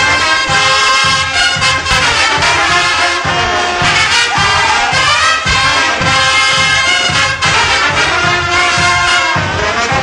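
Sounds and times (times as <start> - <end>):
bass drum beat: 0.0 - 10.0
brass band playing: 0.0 - 10.0.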